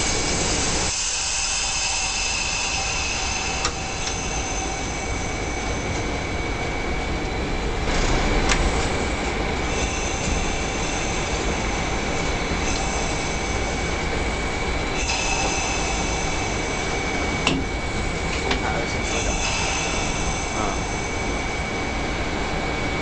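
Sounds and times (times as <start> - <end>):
train engine and wheels rumbling: 0.0 - 23.0.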